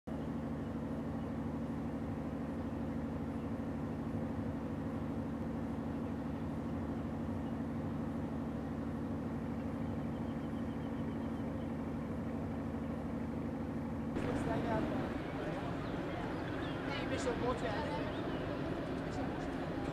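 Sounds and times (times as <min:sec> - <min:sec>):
boat engine droning: 0:00.1 - 0:19.9.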